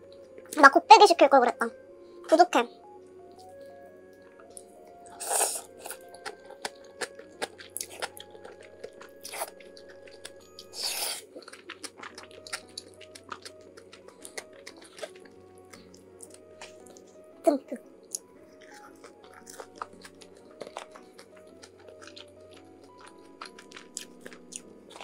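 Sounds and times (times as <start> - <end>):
person chewing: 3.3 - 25.0.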